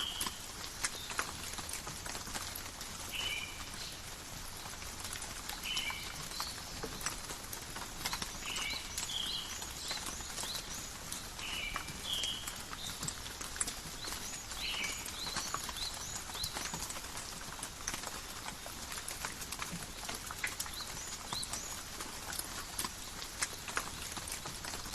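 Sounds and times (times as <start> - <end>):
rain falling through forest: 0.0 - 24.9.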